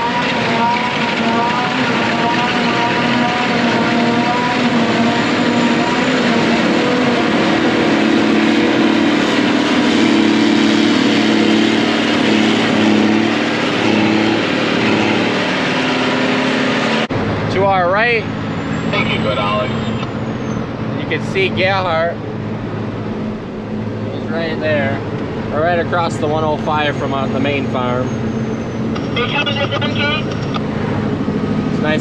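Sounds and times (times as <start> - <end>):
truck diesel engine driving: 0.0 - 32.0.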